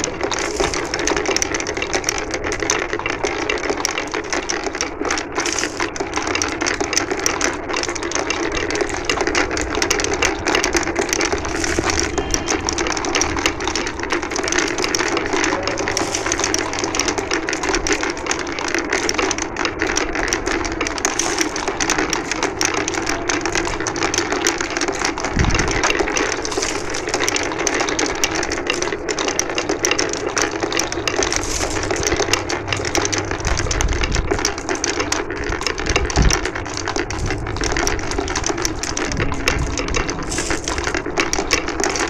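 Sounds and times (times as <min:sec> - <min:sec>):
marbles rolling and clattering: 0:00.0 - 0:42.0.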